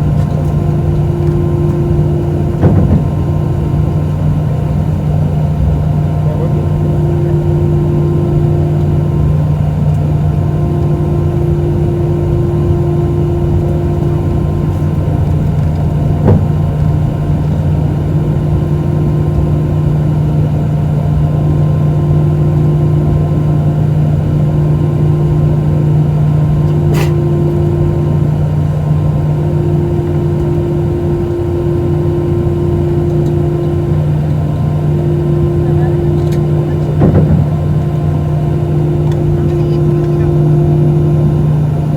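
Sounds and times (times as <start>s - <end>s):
jet engine cabin drone: 0.0s - 41.9s.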